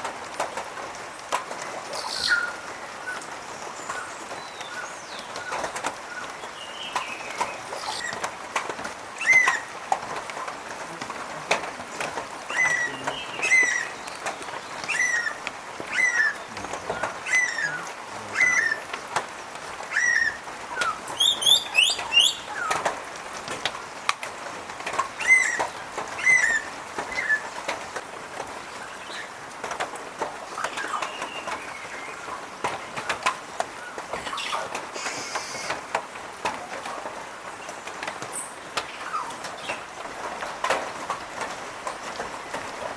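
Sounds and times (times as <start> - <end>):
birds calling: 1.0 - 29.8, 30.4 - 42.9.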